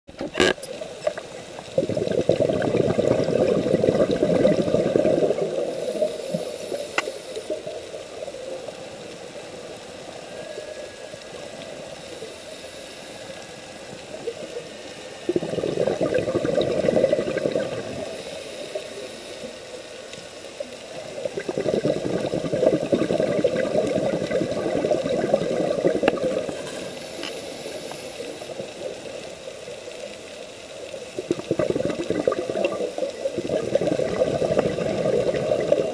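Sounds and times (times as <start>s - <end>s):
underwater water noise: 0.1s - 35.9s
regulator hiss: 0.7s - 35.9s
exhaled bubbles gushing underwater: 0.8s - 9.7s, 13.8s - 18.8s, 20.6s - 35.9s.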